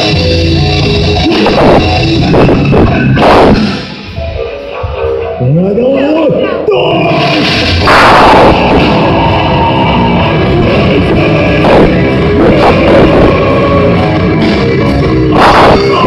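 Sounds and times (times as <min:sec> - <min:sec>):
drum kit: 0:00.0 - 0:05.4, 0:07.0 - 0:16.0
distorted electric guitars: 0:00.0 - 0:16.0.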